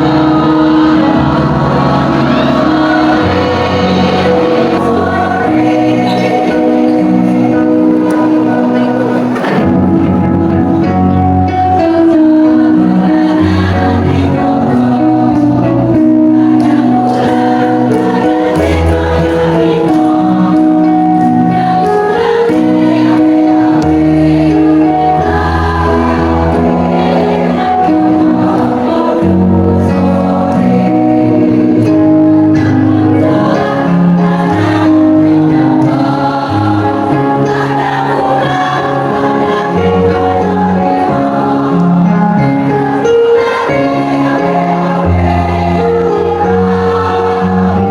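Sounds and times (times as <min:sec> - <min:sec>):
choir singing held chords: 0:00.0 - 0:47.9.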